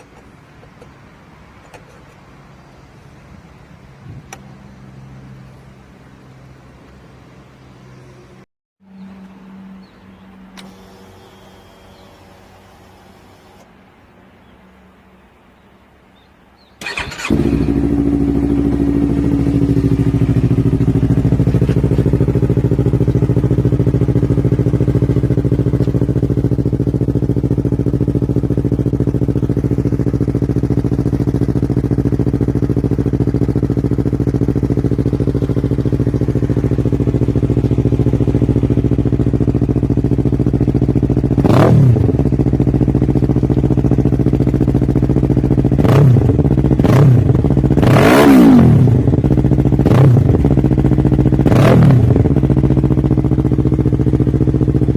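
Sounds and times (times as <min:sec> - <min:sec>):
motorcycle engine idling and revving: 0:00.0 - 0:13.7, 0:16.2 - 0:54.9.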